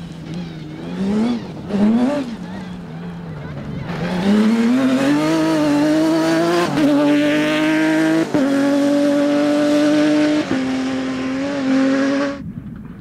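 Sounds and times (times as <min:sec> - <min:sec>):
rally car engine at high revs: 0:00.0 - 0:12.4.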